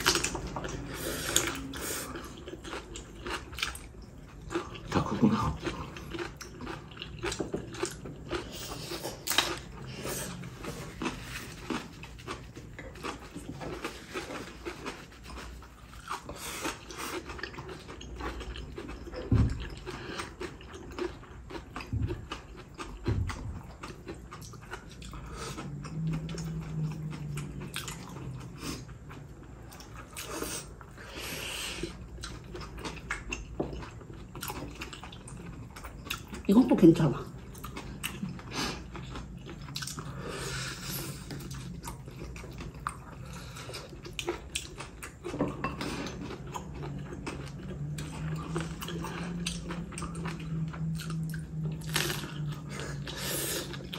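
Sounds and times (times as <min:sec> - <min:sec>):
people chewing food: 0:00.0 - 0:53.9.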